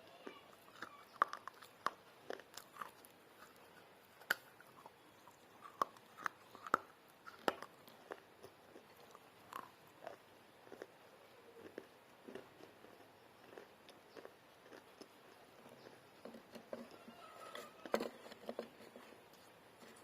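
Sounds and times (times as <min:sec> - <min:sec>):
crunching and chewing clay pieces: 0:00.1 - 0:20.0.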